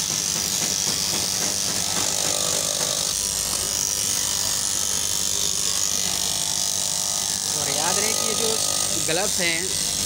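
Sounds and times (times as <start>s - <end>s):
cloth cutting machine running: 0.0s - 10.0s.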